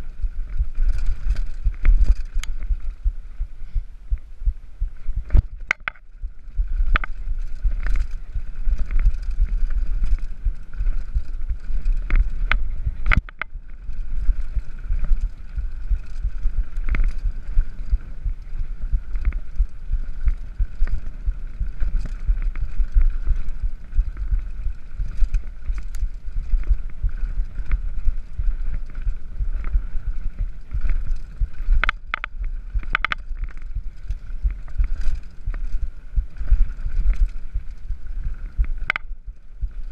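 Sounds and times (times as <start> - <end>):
bike rattling over bumps: 0.0 - 39.9
bike tyres rumbling on dirt: 0.0 - 39.9
wind buffeting microphone: 0.0 - 39.9.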